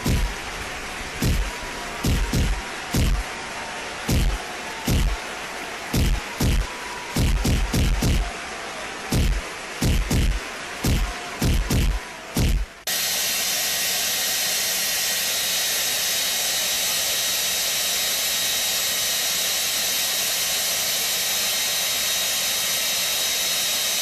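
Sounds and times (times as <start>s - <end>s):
hair dryer blowing air: 0.0s - 24.0s.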